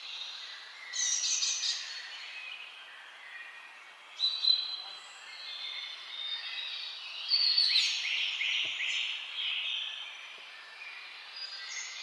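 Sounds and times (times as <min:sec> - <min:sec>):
birds chirping and singing: 0:00.0 - 0:12.0
soft outdoor hiss: 0:00.0 - 0:12.0.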